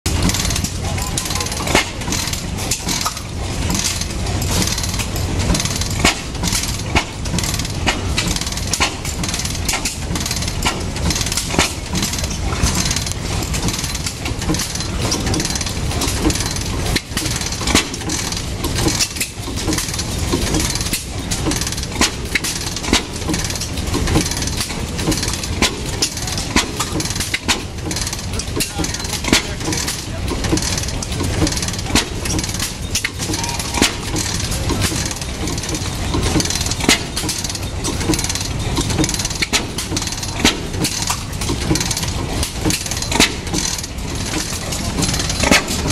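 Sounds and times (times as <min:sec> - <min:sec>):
two-stroke engine chugging: 0:00.1 - 0:45.9.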